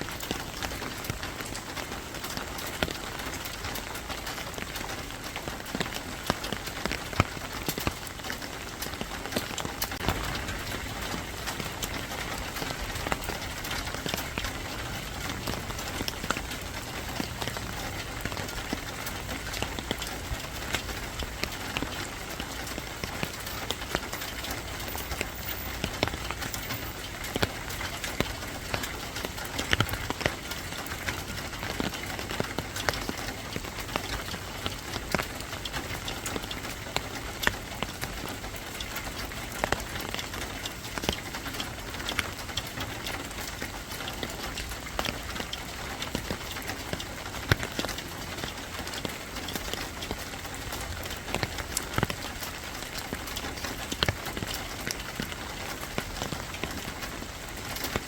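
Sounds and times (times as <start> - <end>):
rain drops on hard surface: 0.0 - 58.0.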